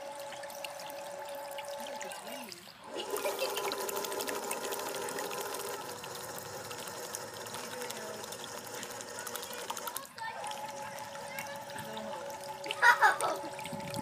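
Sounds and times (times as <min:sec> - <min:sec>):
paddlewheel splashing water: 0:00.0 - 0:14.0.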